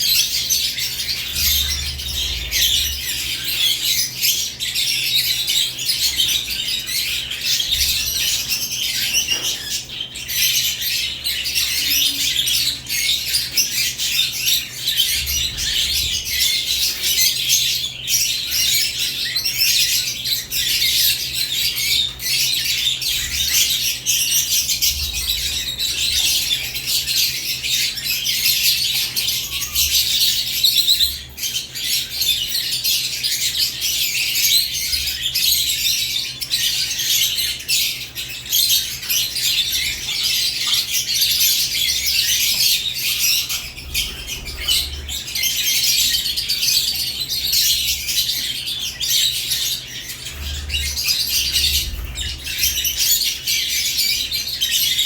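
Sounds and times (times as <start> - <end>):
lovebirds chirping and squawking: 0.0 - 55.0.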